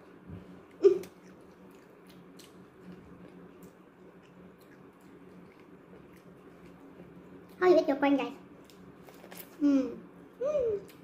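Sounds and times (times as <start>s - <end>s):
soft chewing: 0.0s - 7.6s, 8.5s - 11.0s.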